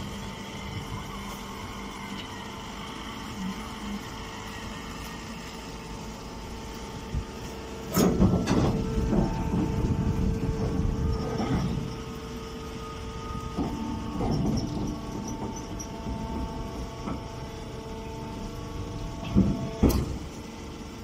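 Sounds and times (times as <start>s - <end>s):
baler machinery humming: 0.0s - 21.0s.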